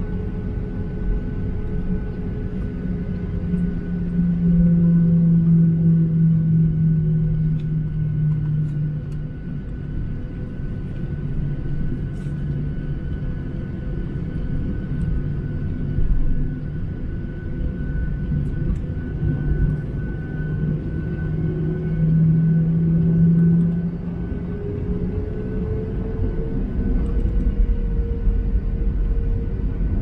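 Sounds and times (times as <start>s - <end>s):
jet engines humming: 0.0s - 30.0s
low rumble: 0.0s - 30.0s.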